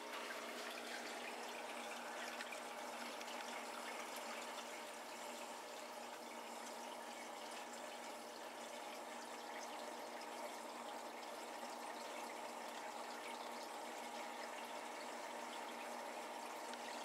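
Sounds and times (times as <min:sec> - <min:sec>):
aquarium water trickling: 0:00.0 - 0:17.0
faint steady hum: 0:00.0 - 0:17.0.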